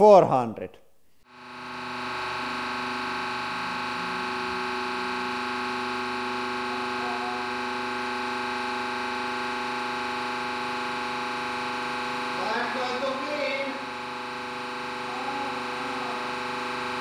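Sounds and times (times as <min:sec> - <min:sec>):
hydraulic pump humming: 0:01.2 - 0:17.0.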